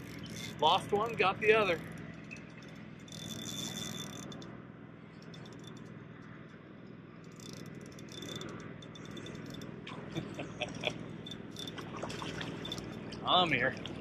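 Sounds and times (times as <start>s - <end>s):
fishing reel whirring rattle: 0.0s - 4.5s, 5.1s - 6.6s, 7.2s - 9.8s, 10.8s - 14.0s
low hum: 0.0s - 14.0s.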